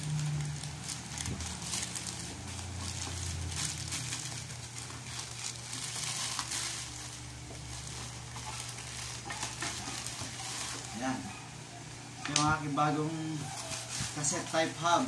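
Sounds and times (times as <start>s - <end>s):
packaging crinkling and tearing: 0.0s - 11.4s, 12.3s - 15.0s
low steady hum: 0.0s - 15.0s.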